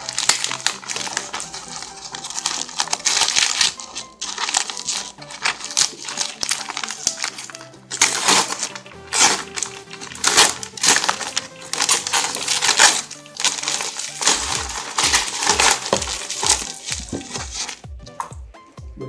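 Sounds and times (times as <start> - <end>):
paper and tape tearing and crumpling: 0.0 - 17.9
music with low beat: 0.0 - 19.0.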